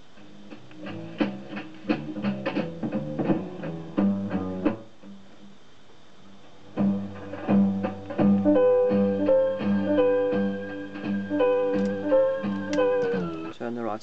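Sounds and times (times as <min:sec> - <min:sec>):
record player music: 0:00.0 - 0:14.0.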